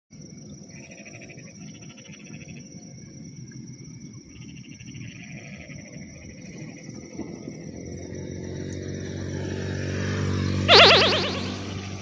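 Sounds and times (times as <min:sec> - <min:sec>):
crickets chirring: 0:00.1 - 0:12.0
lower insect trill: 0:00.2 - 0:09.4, 0:10.7 - 0:11.9.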